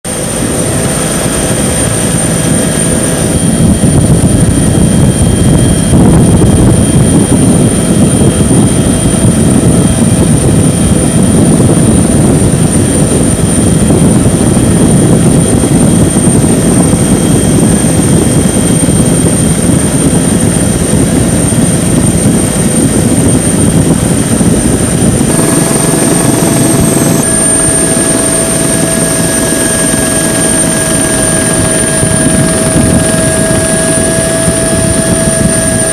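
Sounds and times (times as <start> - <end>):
helicopter engine and rotor: 0.0 - 35.9.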